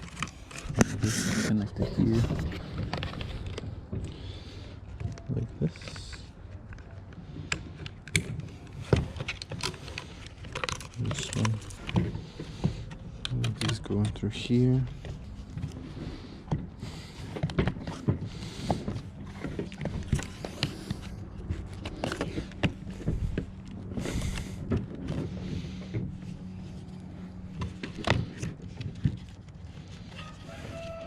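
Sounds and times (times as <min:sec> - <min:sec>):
steady low hum: 0:00.0 - 0:30.7.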